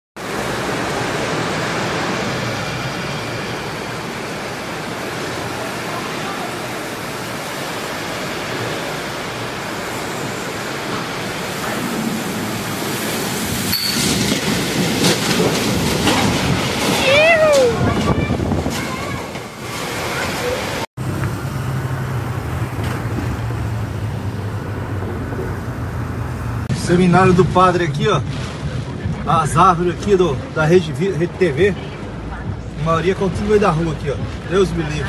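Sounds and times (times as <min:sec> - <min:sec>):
heavy rain pouring: 0:00.2 - 0:35.0.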